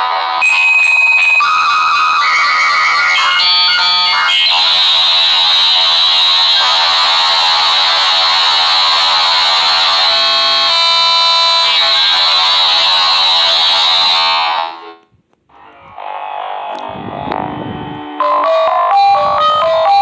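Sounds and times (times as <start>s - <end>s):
high steady tone: 0.4s - 6.9s, 8.7s - 20.0s
warbling modem tones: 0.4s - 20.0s.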